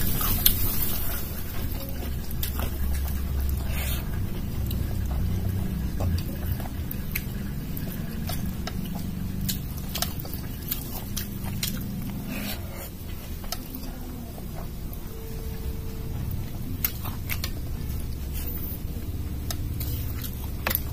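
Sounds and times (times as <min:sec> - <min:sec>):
steady low hum: 0:00.0 - 0:20.9
wet chewing and mouth smacking: 0:00.0 - 0:20.9.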